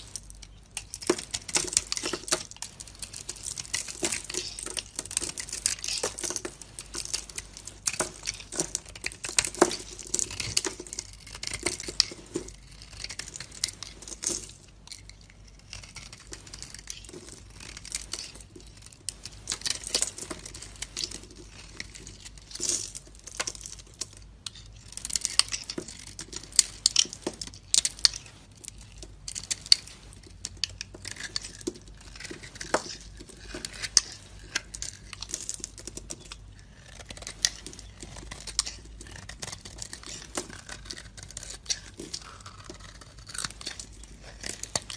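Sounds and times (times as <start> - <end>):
knife shaving dry soap: 0.0 - 44.9.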